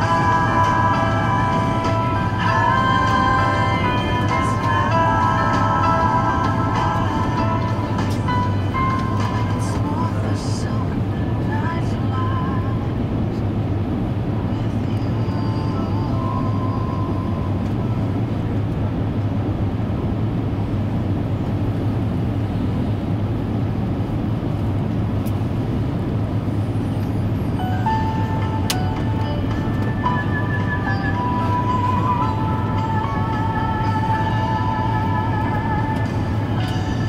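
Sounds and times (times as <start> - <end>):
airliner cabin rumble: 0.0 - 37.0.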